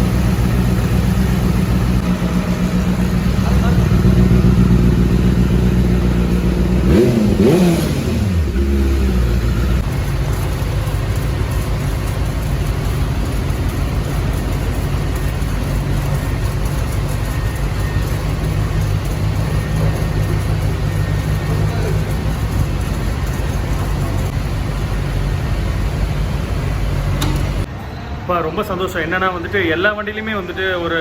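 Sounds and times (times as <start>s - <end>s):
vehicle engine droning: 0.0s - 27.8s.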